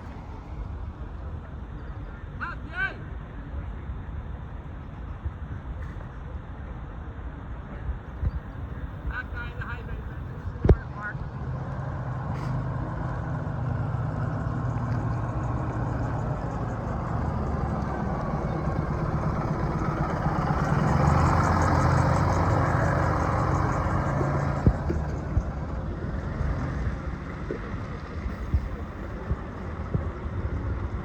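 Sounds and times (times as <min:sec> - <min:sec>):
bus diesel engine: 0:00.0 - 0:02.3, 0:08.1 - 0:31.0.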